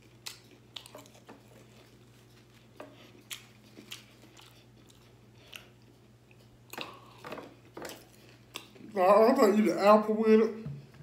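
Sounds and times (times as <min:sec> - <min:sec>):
chewing soft crunches: 0:00.0 - 0:08.9
low steady hum: 0:00.0 - 0:11.0.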